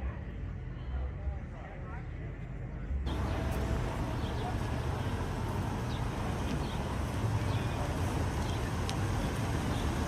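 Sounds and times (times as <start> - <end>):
street background rumble: 0.0 - 10.0.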